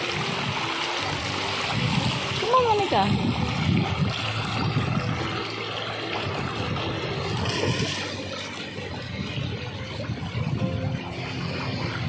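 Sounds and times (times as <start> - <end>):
seawater lapping at shoreline: 0.0 - 12.0.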